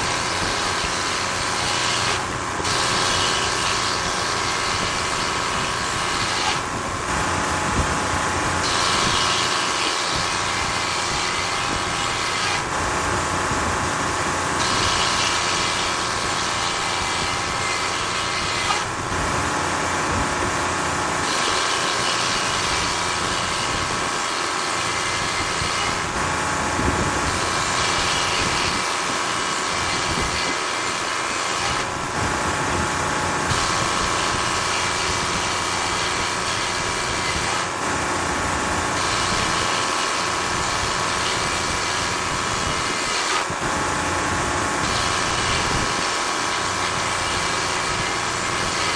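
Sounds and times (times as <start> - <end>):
sawmill engine running: 0.0 - 48.9
sawmill sawing a log: 0.0 - 48.9.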